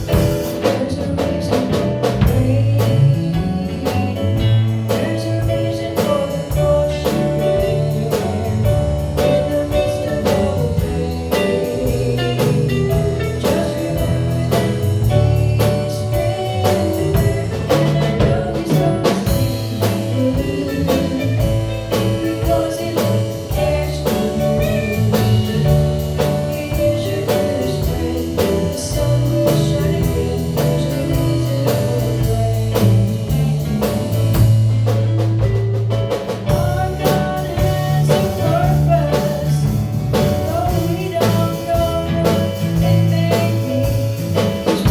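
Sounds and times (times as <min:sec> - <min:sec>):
bass line: 0:00.0 - 0:44.9
drum kit beat: 0:00.0 - 0:44.9
live gospel band: 0:00.0 - 0:44.9.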